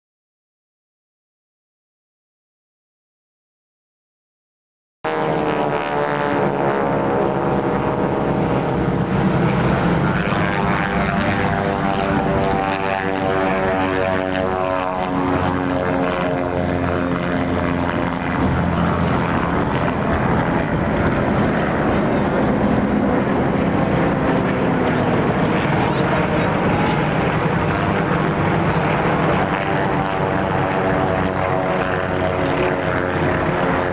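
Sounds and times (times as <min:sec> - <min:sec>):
propeller planes flying overhead: 0:05.0 - 0:33.9.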